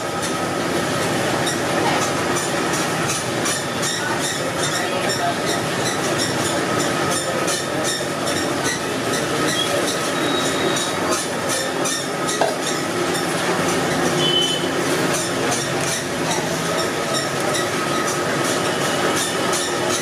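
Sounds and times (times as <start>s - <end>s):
market stall noise: 0.0s - 20.0s.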